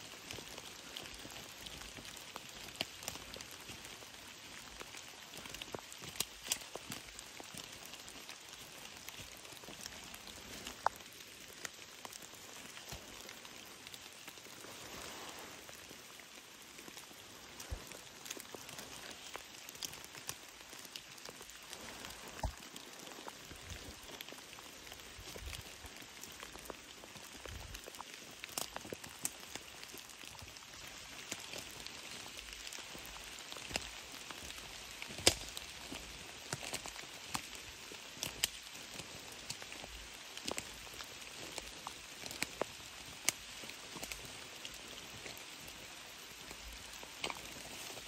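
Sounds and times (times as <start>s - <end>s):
footsteps on wet trail: 0.0s - 48.0s
rain hiss: 0.0s - 48.0s
raindrop ticks: 0.0s - 48.0s.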